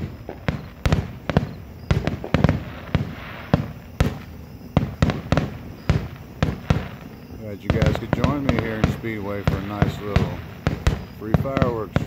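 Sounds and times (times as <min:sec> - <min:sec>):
fireworks bangs and booms: 0:00.0 - 0:12.0.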